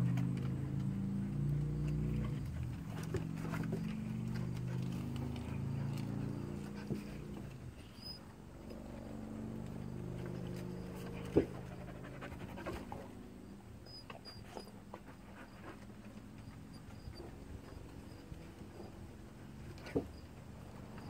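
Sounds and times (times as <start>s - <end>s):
dogs panting: 0.0s - 8.9s, 9.6s - 21.0s.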